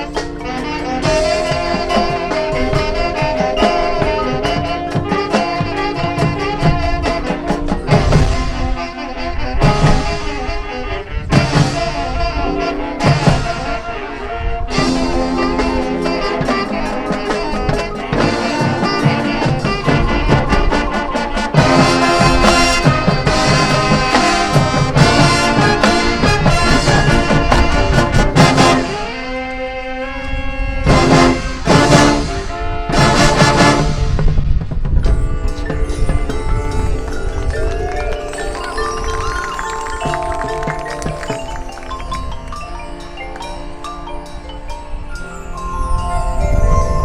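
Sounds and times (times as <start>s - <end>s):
marching band playing: 0.0s - 47.0s.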